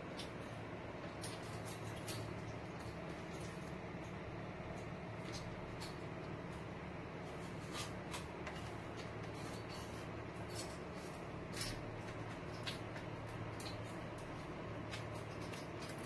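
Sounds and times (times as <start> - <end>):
electric fan hum: 0.0 - 16.0.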